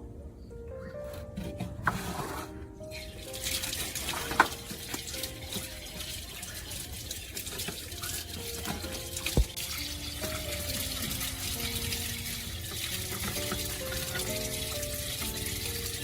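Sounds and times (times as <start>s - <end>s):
soft background music: 0.0s - 16.0s
running water hiss: 1.8s - 16.0s.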